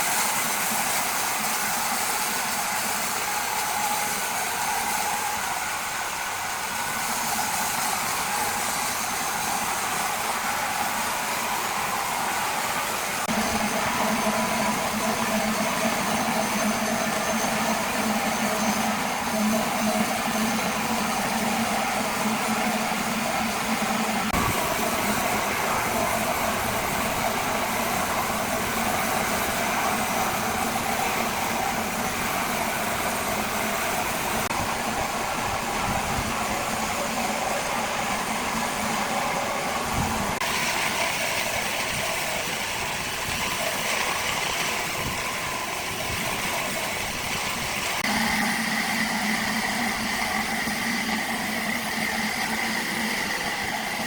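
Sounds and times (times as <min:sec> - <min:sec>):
continuous mechanical noise: 0:00.0 - 0:54.0
large engine humming: 0:00.0 - 0:54.0.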